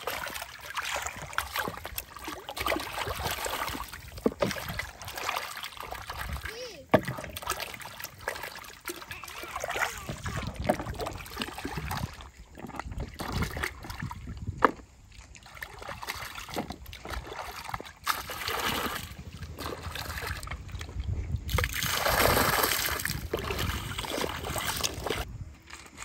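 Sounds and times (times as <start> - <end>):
rush of water: 0.0 - 25.3
water splashing in a basin: 0.0 - 25.3.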